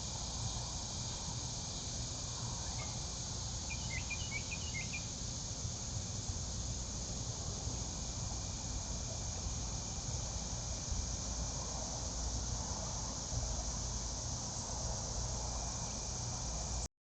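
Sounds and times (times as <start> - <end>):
insect chorus: 0.0 - 16.9.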